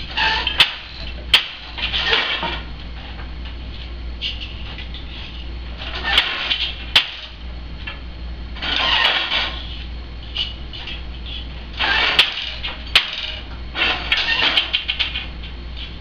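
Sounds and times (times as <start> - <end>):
loom clattering and rattling: 0.0 - 3.3, 4.2 - 8.0, 8.6 - 16.0
low hum: 0.0 - 16.0.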